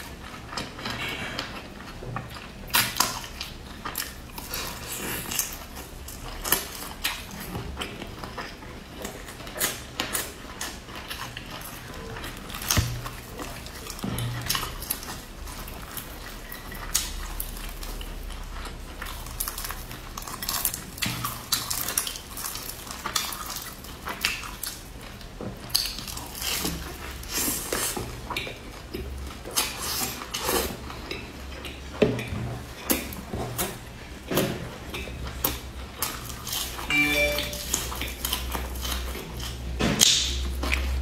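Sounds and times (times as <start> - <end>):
chewing: 0.0 - 41.0.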